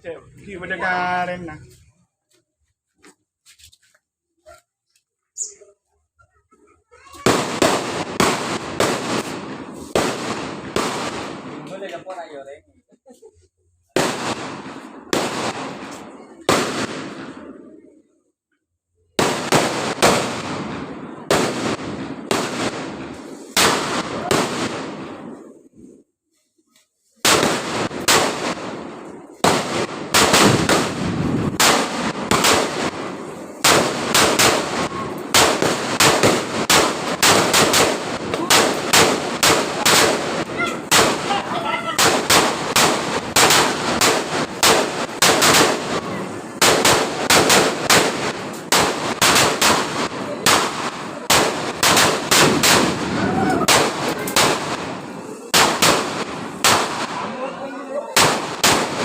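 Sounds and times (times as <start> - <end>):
firecrackers going off: 6.8 - 12.6, 13.3 - 18.0, 19.1 - 26.0, 26.7 - 59.0.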